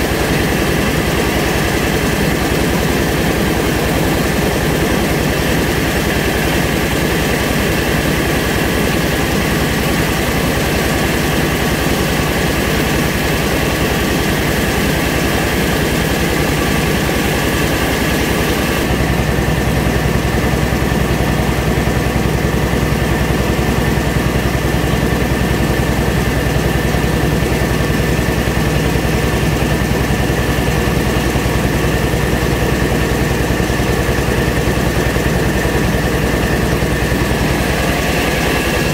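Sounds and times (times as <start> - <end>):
rice milling machine running: 0.0 - 38.9.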